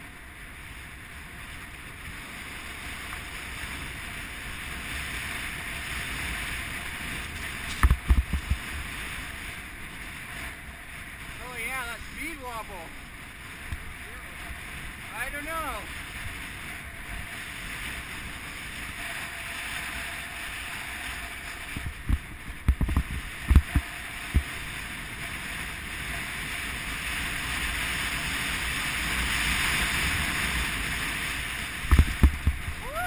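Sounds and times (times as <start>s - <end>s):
skis sliding over snow: 0.0s - 33.0s
wind on microphone: 0.0s - 33.0s.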